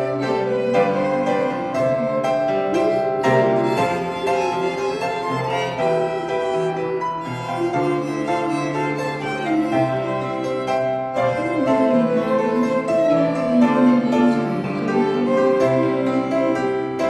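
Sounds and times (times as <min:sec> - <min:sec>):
violins playing melody: 0:00.0 - 0:17.0.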